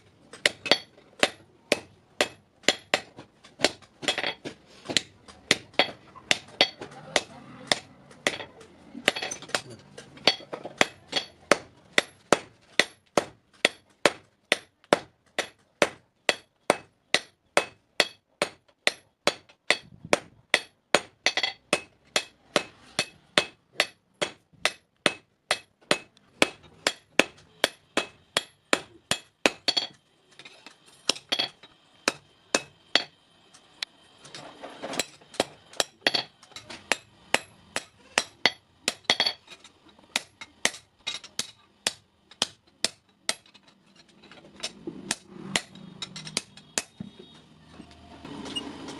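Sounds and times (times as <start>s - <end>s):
hammer striking steel on anvil: 0.3s - 33.6s, 34.3s - 47.2s.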